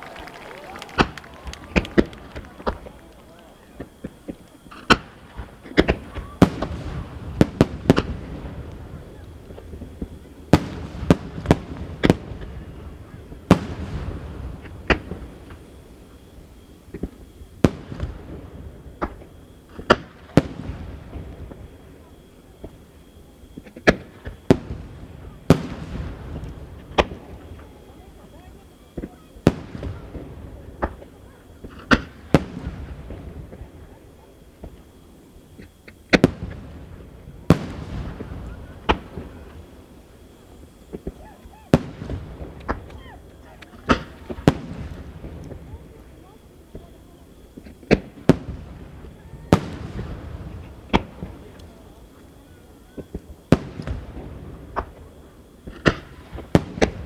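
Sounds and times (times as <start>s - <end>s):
firework bangs: 0.0s - 57.0s.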